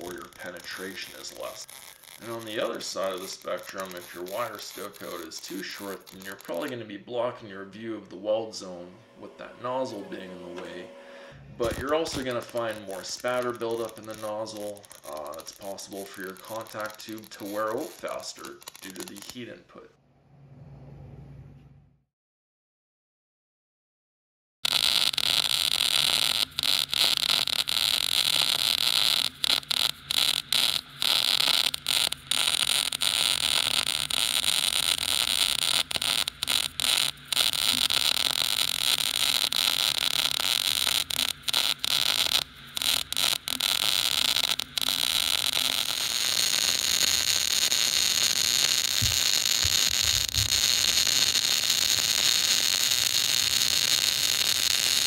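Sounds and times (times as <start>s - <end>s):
welding arc crackling hiss: 0.0s - 19.6s, 24.6s - 55.0s.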